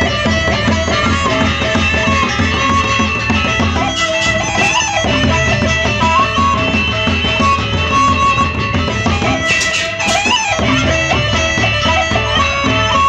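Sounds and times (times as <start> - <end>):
barrel drums beating: 0.0 - 12.8
cymbals and gongs: 0.0 - 12.9
flute melody: 0.0 - 13.0.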